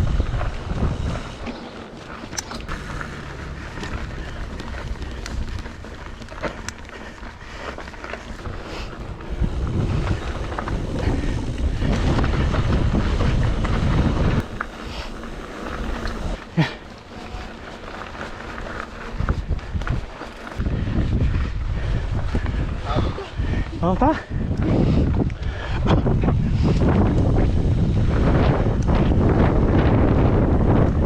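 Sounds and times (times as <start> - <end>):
bike clicks and rattles: 0.0 - 31.0
wind buffeting microphone: 0.0 - 31.0.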